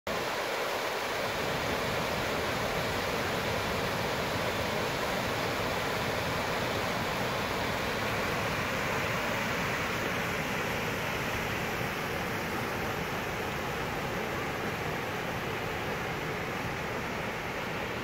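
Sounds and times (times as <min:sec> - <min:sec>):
water cascading over rocks: 0:00.1 - 0:18.0.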